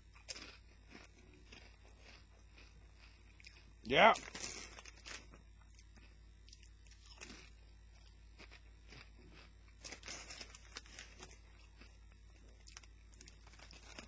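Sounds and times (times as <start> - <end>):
faint chip crunching: 0.1 - 14.0.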